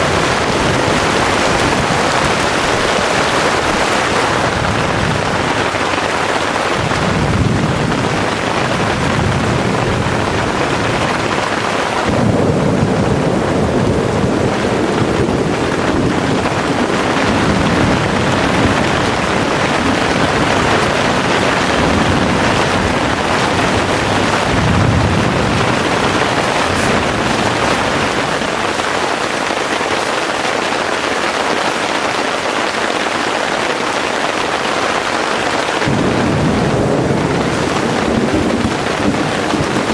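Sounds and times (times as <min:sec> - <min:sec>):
thunder rumbling: 0:00.0 - 0:32.2, 0:32.8 - 0:39.9
heavy rain pouring: 0:00.0 - 0:39.9.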